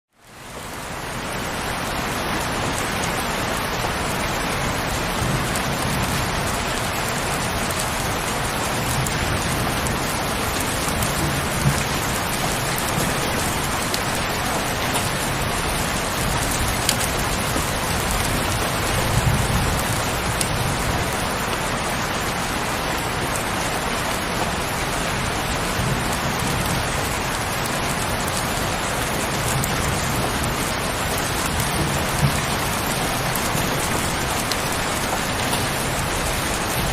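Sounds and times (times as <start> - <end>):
heavy rain hissing: 0.2 - 36.9.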